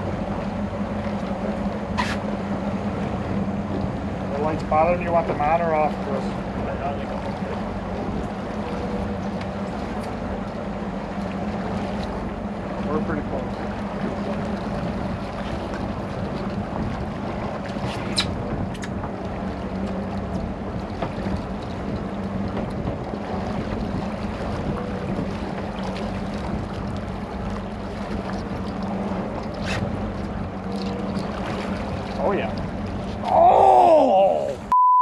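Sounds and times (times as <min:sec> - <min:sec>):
boat engine humming: 0:00.0 - 0:34.8
water noise: 0:00.0 - 0:34.8
wind: 0:00.0 - 0:35.0.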